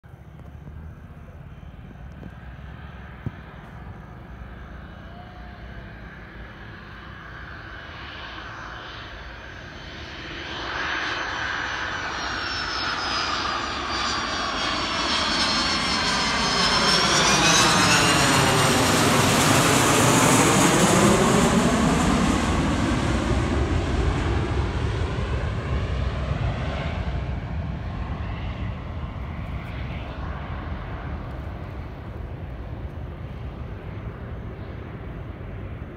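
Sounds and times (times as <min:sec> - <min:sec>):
jet passing overhead: 0:00.1 - 0:35.9.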